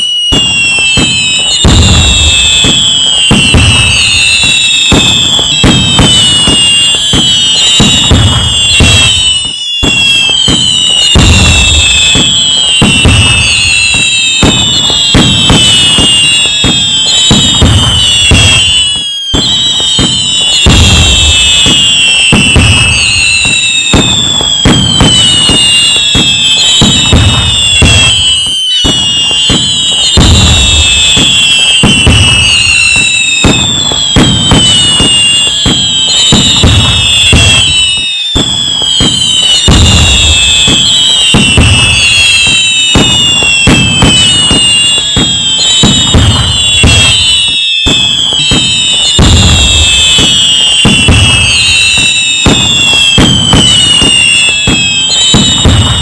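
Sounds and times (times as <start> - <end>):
firework whistles falling in pitch: 0.0 - 56.0
fireworks crackling and banging: 0.0 - 56.0.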